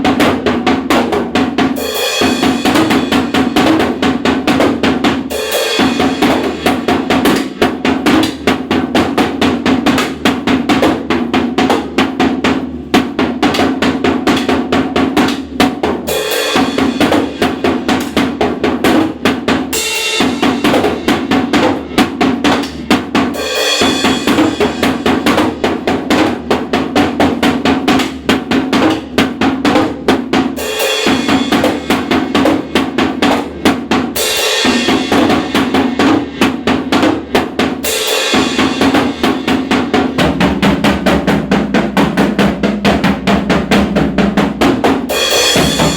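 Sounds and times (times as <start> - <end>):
drum kit playing fast beat: 0.0 - 45.9.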